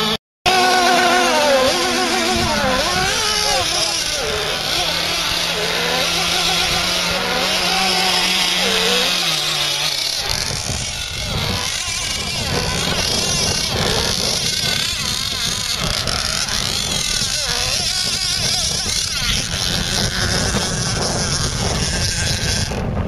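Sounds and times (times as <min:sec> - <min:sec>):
model boat engines buzzing: 0:00.0 - 0:23.0
wind rumbling on microphone: 0:00.5 - 0:23.0.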